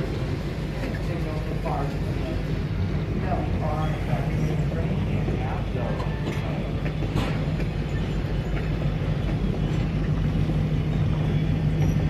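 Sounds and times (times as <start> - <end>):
diesel locomotive engine drone: 0.0 - 12.0
train rolling slowly: 0.0 - 12.0.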